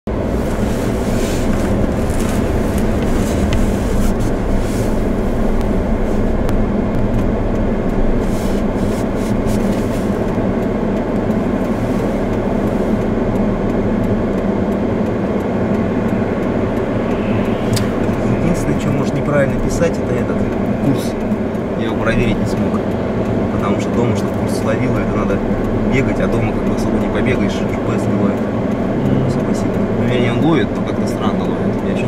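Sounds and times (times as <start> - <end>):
car engine and tyre rumble: 0.1 - 32.0.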